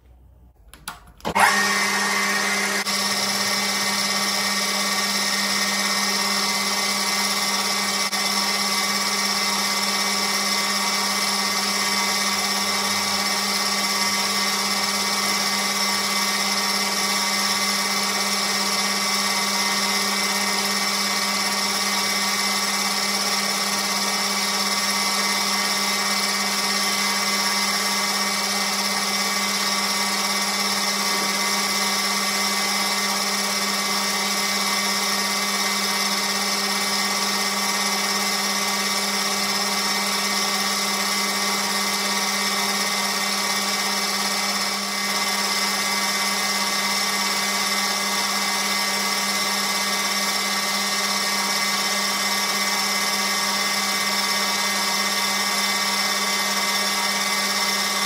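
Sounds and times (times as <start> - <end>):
metal lathe humming and whining: 1.3 - 58.0.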